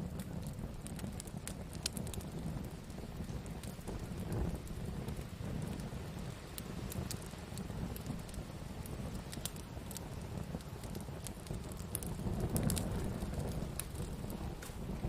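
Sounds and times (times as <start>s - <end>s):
campfire crackling: 0.0s - 15.0s
low steady rumble: 0.0s - 15.0s.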